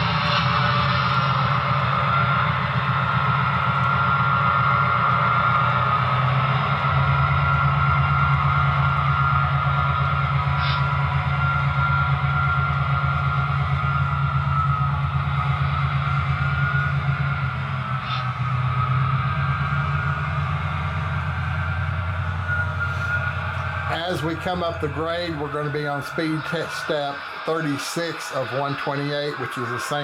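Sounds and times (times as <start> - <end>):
deep bass engine rumble: 0.0 - 27.4
higher engine tone: 0.0 - 30.0.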